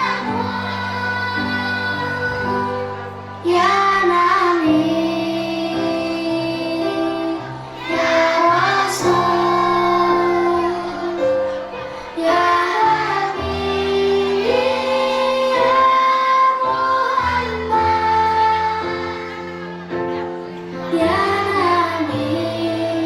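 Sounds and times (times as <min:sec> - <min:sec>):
children's choir singing: 0:00.0 - 0:23.0.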